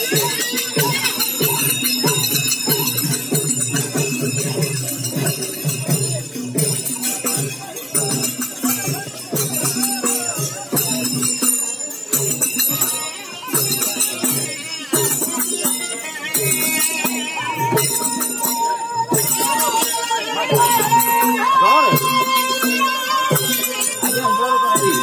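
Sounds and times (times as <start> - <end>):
steady drum beat: 0.0 - 11.4, 16.3 - 25.0
small cymbals jingling: 0.0 - 25.0.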